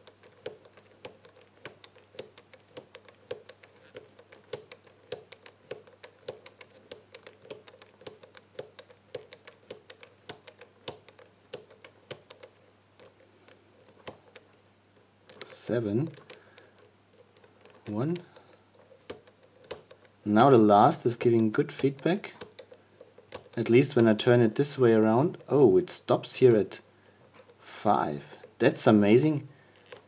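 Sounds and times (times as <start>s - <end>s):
lock combination wheels clicking: 0.0s - 25.6s.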